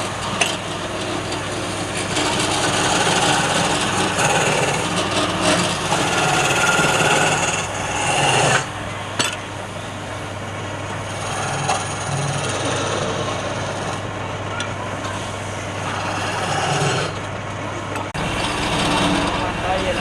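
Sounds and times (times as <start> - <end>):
lathe tool scraping wood: 0.0 - 10.2, 10.9 - 14.2, 14.9 - 17.4, 18.0 - 20.0
lathe motor hum: 0.0 - 20.0.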